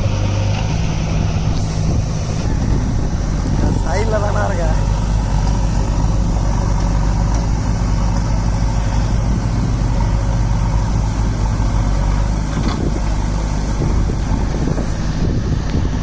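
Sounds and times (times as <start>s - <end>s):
backhoe loader engine running: 0.0s - 16.0s
tractor diesel engine droning: 0.0s - 16.0s.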